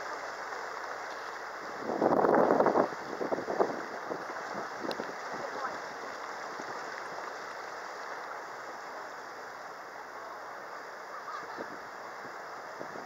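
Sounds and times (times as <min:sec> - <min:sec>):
boat rushing through water: 0:00.0 - 0:13.0.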